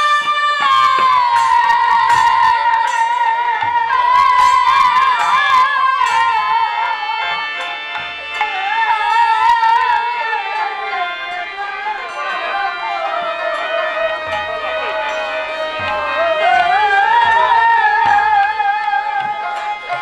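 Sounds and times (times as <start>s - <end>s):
repeated percussion strokes: 0.0s - 20.0s
sliding ornamented melody: 0.0s - 20.0s.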